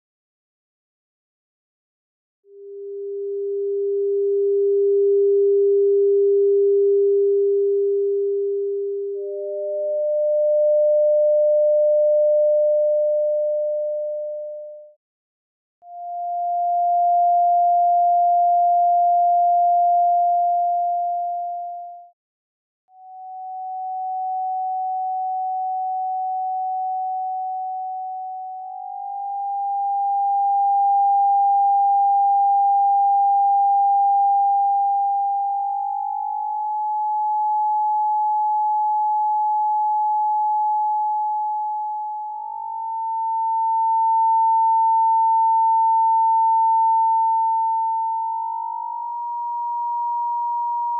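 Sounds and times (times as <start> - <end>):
electronic sine tones: 2.5 - 15.0, 15.8 - 22.1, 23.0 - 50.9.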